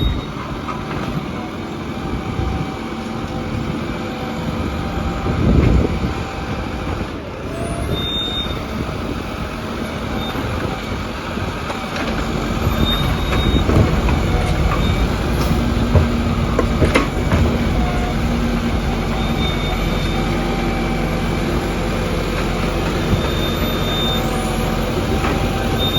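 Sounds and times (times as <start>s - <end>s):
garbage truck running: 0.0s - 25.9s.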